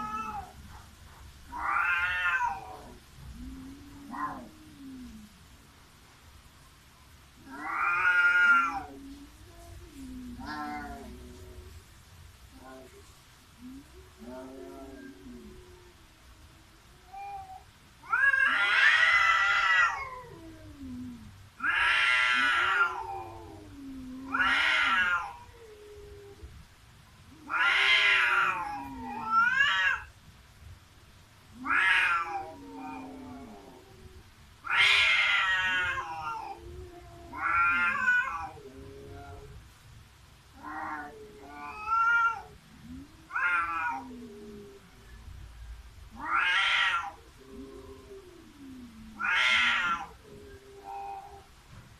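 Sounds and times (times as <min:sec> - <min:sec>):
cats yowling: 0:00.0 - 0:00.9, 0:01.5 - 0:05.4, 0:07.4 - 0:11.7, 0:12.5 - 0:13.0, 0:13.6 - 0:26.6, 0:27.3 - 0:30.1, 0:31.5 - 0:39.6, 0:40.5 - 0:45.2, 0:46.1 - 0:51.5.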